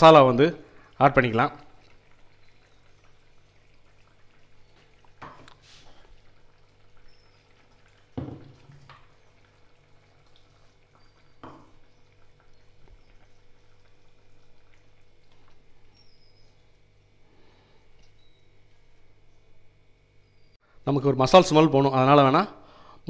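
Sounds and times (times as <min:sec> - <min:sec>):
gravy bubbling in a pan: 0:00.0 - 0:20.6.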